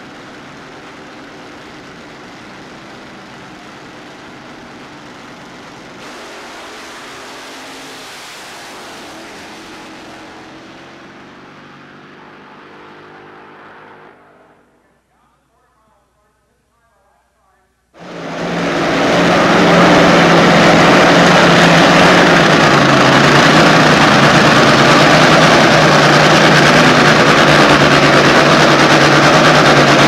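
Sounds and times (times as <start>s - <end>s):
dragsters launching blast: 0.0s - 14.1s, 18.0s - 30.0s
dragster engines running: 0.0s - 16.3s, 18.0s - 30.0s.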